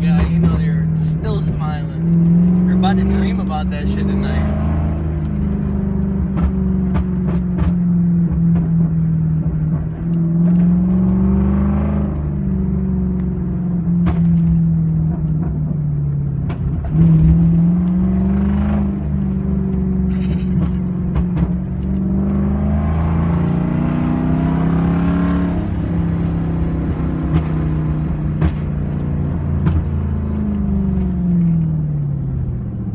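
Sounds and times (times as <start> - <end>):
loud car engine revving: 0.0 - 32.9.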